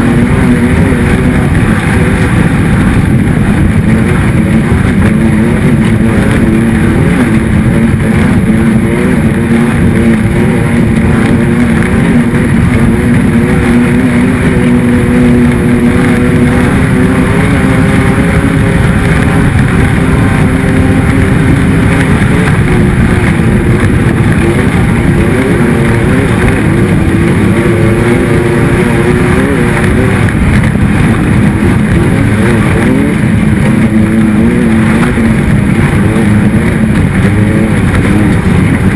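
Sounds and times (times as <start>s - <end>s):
off-road engine running hard: 0.0s - 38.9s
wind and terrain noise: 0.0s - 38.9s.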